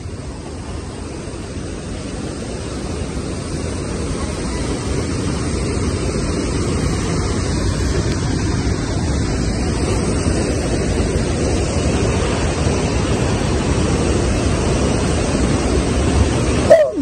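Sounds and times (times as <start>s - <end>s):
waterfall and stream roaring: 0.0s - 17.0s
wind rumble on microphone: 0.0s - 17.0s.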